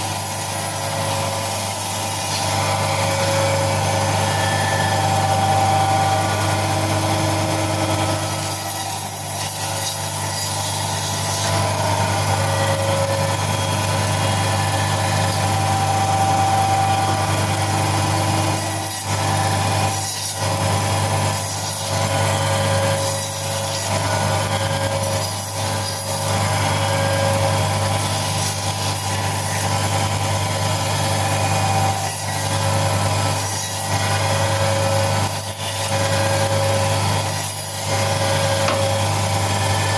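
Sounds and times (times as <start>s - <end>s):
cutting machine humming: 0.0s - 39.9s.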